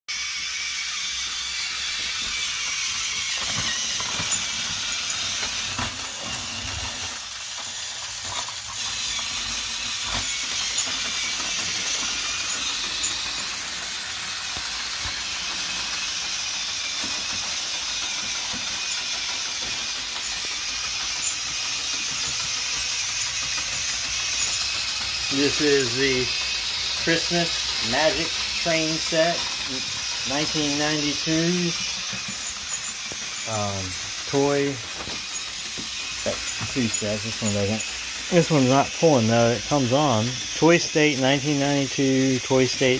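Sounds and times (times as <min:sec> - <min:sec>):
toy train whirring: 0:00.1 - 0:42.9.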